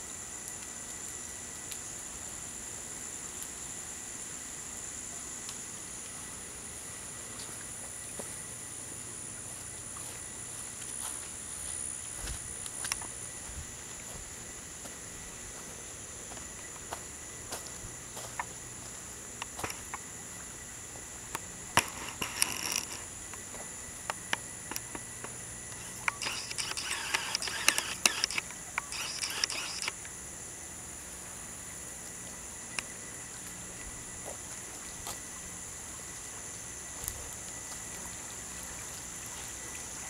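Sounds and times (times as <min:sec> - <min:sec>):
insect chorus drone: 0:00.0 - 0:40.0.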